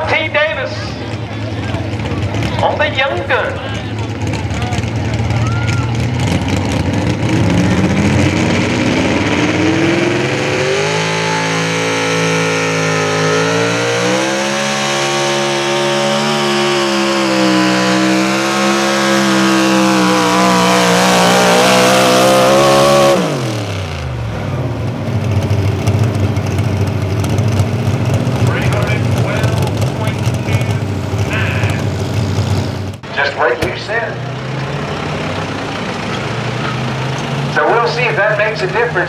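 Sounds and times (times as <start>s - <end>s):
truck engine revving at full throttle: 0.0s - 39.0s.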